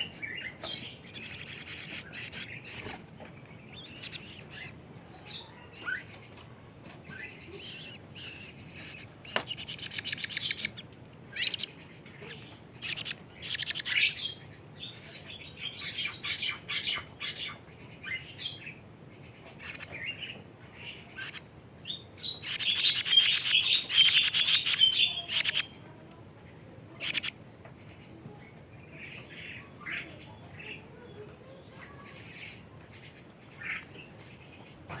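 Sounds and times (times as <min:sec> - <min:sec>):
young cuckoo chirping and trilling: 0:00.0 - 0:35.0.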